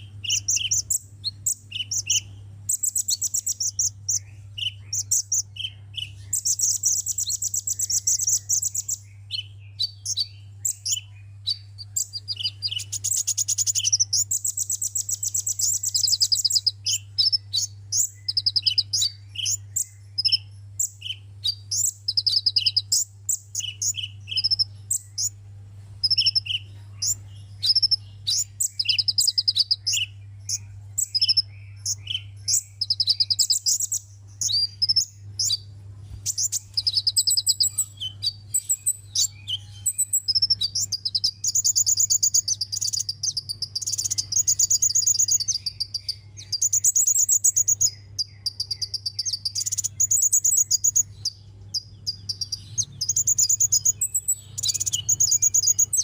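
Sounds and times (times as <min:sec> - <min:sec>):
sunbird trilling and chirping: 0:00.0 - 0:25.4, 0:26.0 - 0:56.0
steady low hum: 0:00.0 - 0:56.0.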